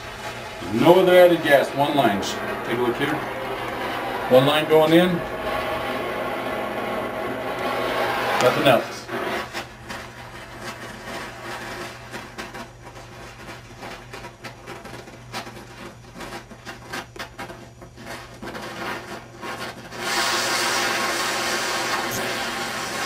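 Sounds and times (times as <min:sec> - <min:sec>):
torch flame crackling: 0:00.0 - 0:23.0
torch flame hissing: 0:00.0 - 0:23.0.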